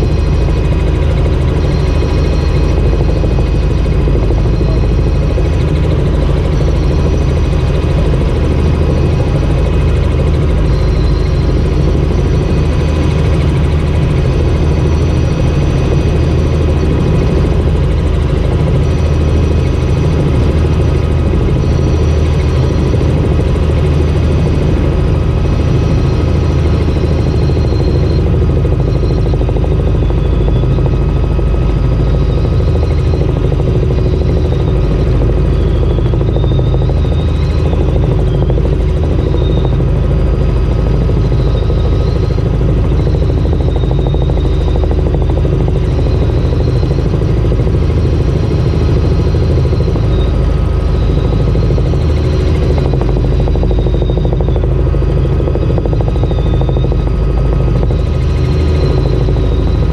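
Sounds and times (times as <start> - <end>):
faint high whines: 0.0 - 59.9
helicopter rotor and engine drone: 0.0 - 59.9.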